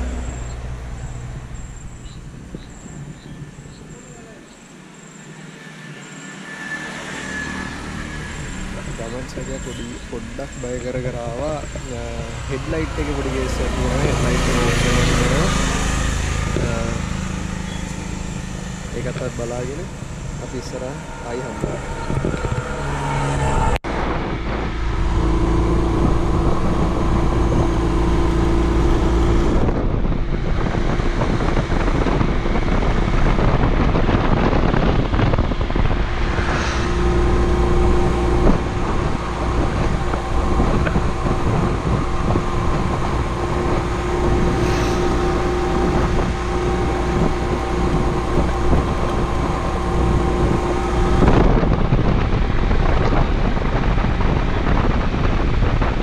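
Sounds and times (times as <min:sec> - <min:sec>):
wind noise on microphone: 0:00.0 - 0:04.4, 0:06.5 - 0:56.0
motorcycle engine running: 0:08.4 - 0:56.0.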